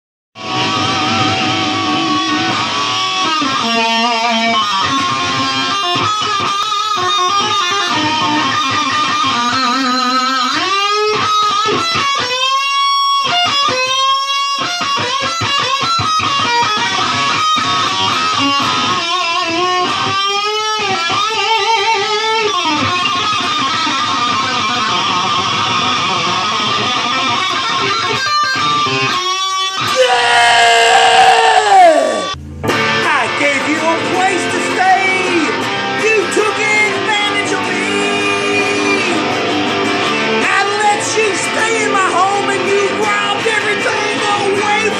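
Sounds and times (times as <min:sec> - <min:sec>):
guitar music: 0:00.4 - 0:44.9.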